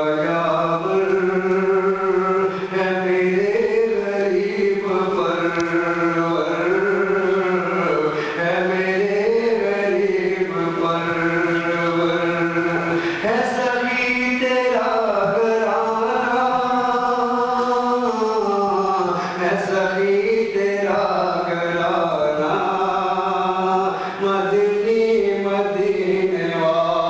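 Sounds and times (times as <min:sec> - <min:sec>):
man chanting into microphone: 0:00.0 - 0:27.0.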